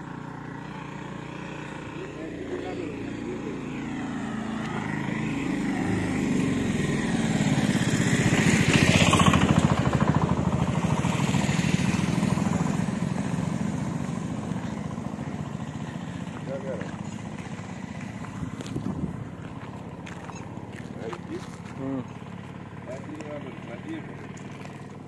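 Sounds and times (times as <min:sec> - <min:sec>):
vehicle engine passing by: 0:00.0 - 0:25.0.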